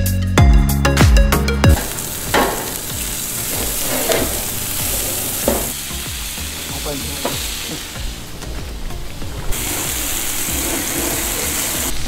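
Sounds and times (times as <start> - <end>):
steak sizzling in a skillet: 1.8 - 12.0.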